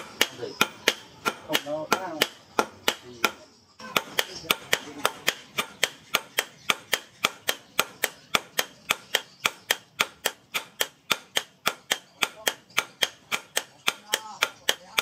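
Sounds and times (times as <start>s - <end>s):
hammer striking metal on anvil: 0.0s - 15.0s.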